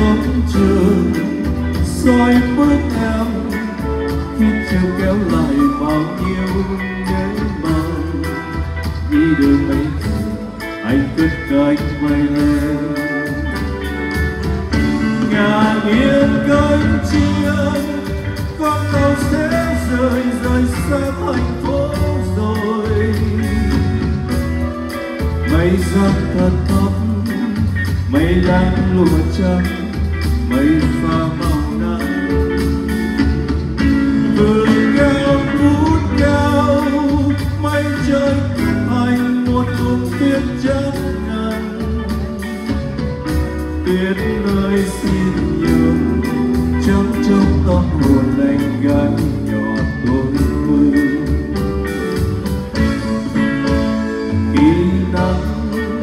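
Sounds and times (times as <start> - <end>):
live band playing slow ballad: 0.0 - 56.0.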